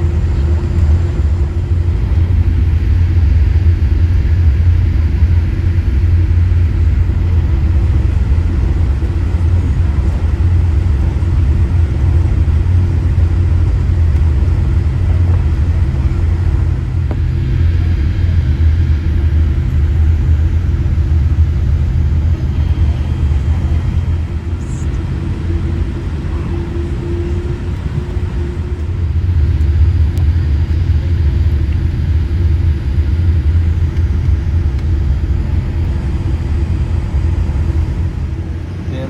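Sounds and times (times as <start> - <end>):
airliner cabin engine rumble: 0.0 - 39.0.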